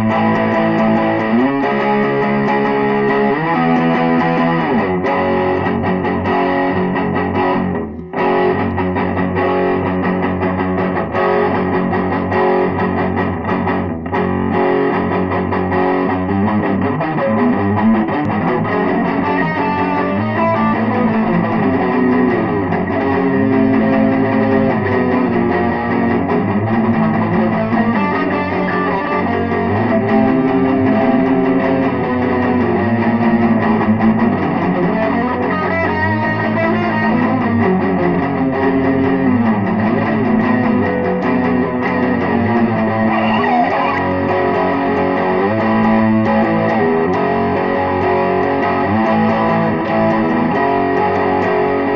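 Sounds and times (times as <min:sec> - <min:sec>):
electric guitar rock instrumental: 0:00.0 - 0:51.9.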